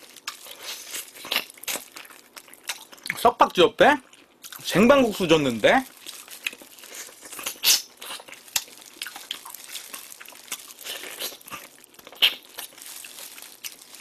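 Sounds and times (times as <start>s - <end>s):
person chewing wet food: 0.0s - 3.2s, 4.0s - 4.7s, 5.8s - 14.0s.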